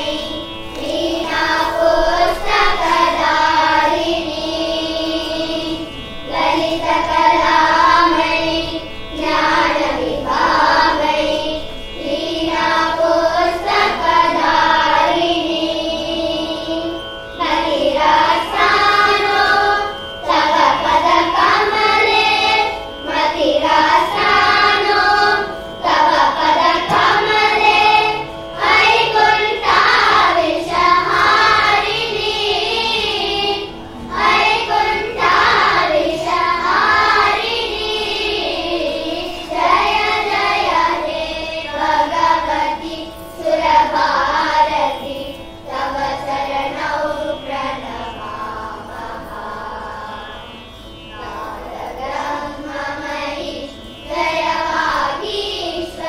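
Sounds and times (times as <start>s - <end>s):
children singing: 0.0s - 56.0s
held accompaniment note: 0.0s - 56.0s.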